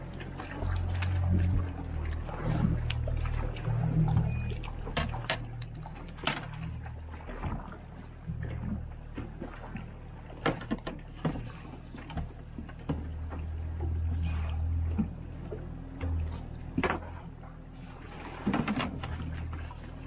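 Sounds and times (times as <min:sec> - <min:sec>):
outboard motor running: 0:00.0 - 0:20.0
waves slapping boat hull: 0:00.0 - 0:20.0.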